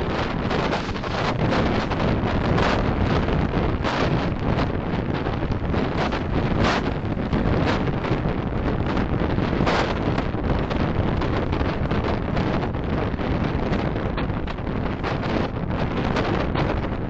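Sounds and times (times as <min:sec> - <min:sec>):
wind and road noise from car: 0:00.0 - 0:17.0.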